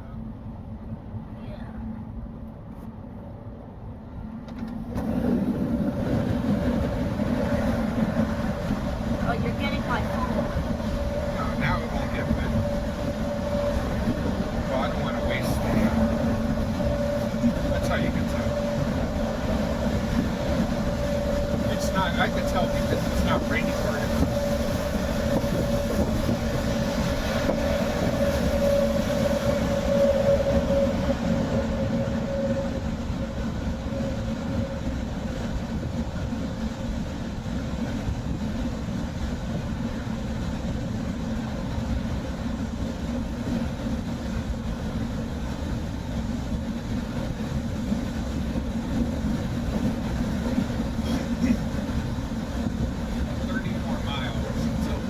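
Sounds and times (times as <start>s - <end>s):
road and engine rumble: 0.0s - 55.0s.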